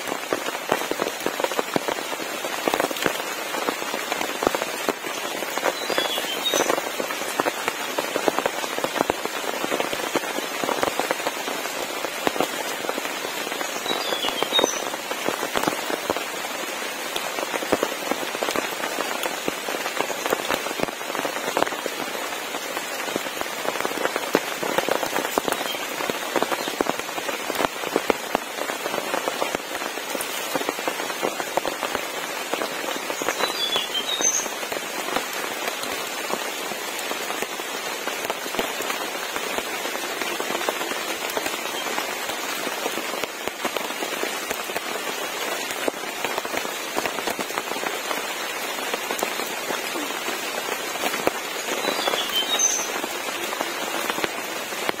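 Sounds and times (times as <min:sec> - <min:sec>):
heavy rain: 0:00.0 - 0:55.0
raindrops hitting surfaces: 0:00.0 - 0:55.0.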